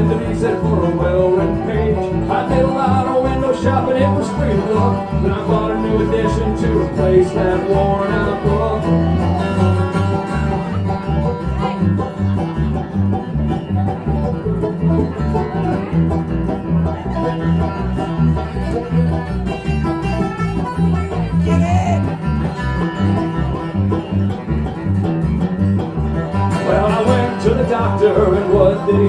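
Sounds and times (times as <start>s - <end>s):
alternating bass line: 0.0s - 29.0s
banjo picking: 0.0s - 29.0s
guitar picking: 0.0s - 29.0s.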